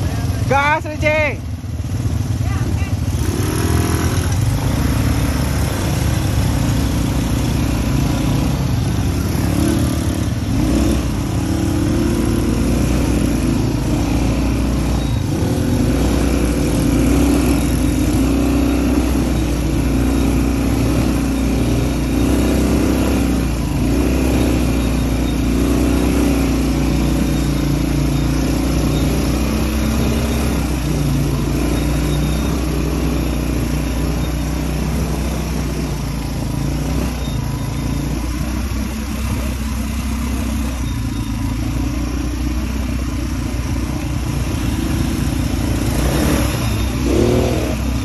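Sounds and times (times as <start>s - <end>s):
quad bike engine revving: 0.0s - 48.0s.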